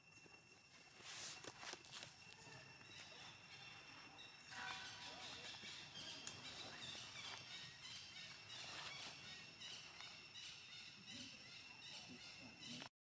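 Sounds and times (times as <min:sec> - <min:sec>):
faint chirps: 0:00.0 - 0:12.9.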